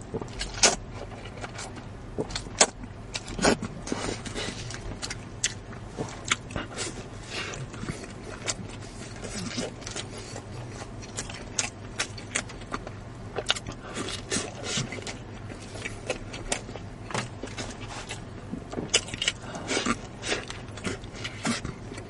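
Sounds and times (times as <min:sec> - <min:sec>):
chewing with clicks and smacks: 0:00.1 - 0:22.0.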